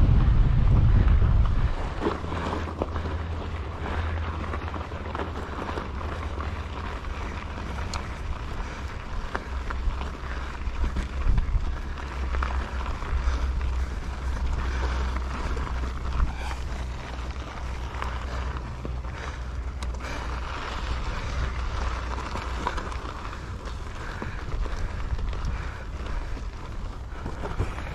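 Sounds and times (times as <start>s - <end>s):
low rumble with rushing noise: 0.0s - 27.9s.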